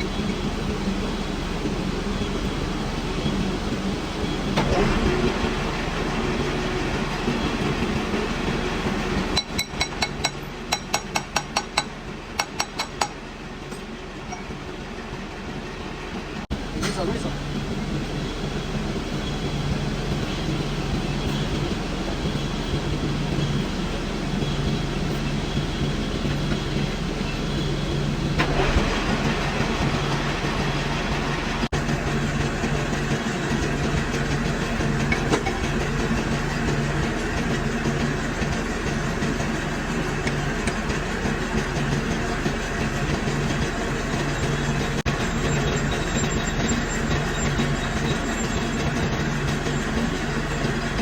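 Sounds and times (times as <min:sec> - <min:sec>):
lathe humming: 0:00.0 - 0:11.0, 0:16.5 - 0:51.0.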